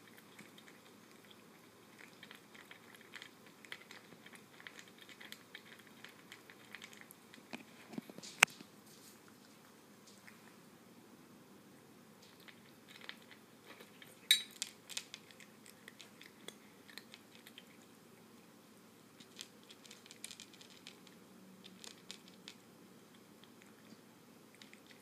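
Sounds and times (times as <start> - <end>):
cat crunching dry kibble: 0.0 - 8.4, 12.2 - 18.3, 19.2 - 25.0.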